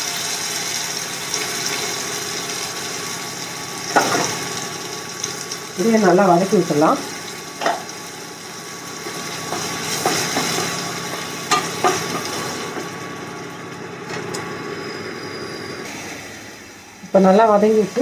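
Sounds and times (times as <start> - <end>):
onions sizzling in hot oil: 0.0 - 15.0, 15.8 - 18.0.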